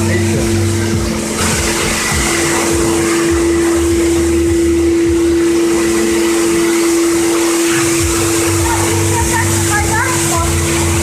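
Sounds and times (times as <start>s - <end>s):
pressure washer whining: 0.0s - 11.0s
water jet hissing: 0.0s - 11.0s.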